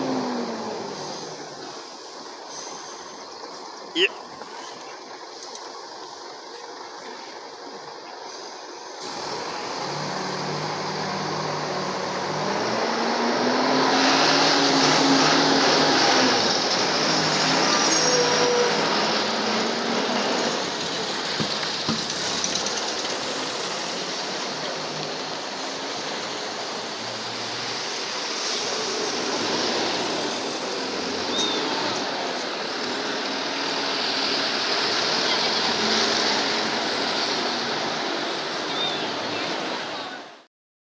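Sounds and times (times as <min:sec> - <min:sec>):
diesel bus engine running: 0:00.0 - 0:40.5
traffic and road rumble: 0:00.0 - 0:40.5.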